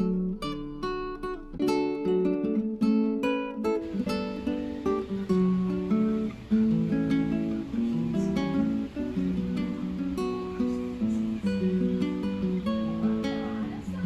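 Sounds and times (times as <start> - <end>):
acoustic guitar plucked melody: 0.0 - 14.0.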